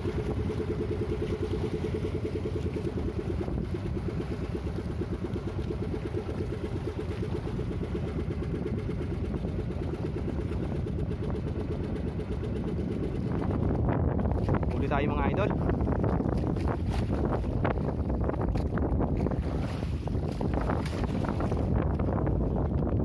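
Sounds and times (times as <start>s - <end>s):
boat engine throbbing: 0.0s - 23.0s
choppy water: 0.0s - 23.0s.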